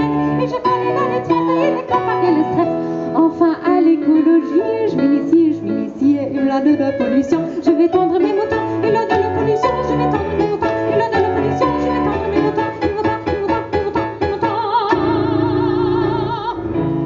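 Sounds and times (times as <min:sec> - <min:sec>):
piano playing: 0:00.0 - 0:17.0
woman singing with vibrato: 0:00.0 - 0:17.0.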